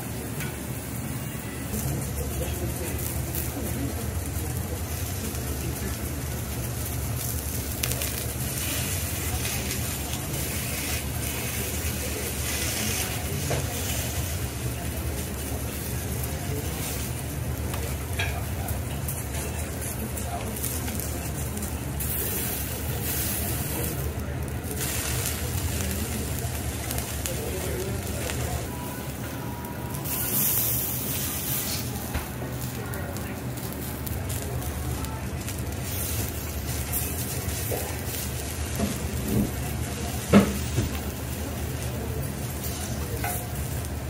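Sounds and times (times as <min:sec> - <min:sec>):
food sizzling on a griddle: 0:00.0 - 0:44.0.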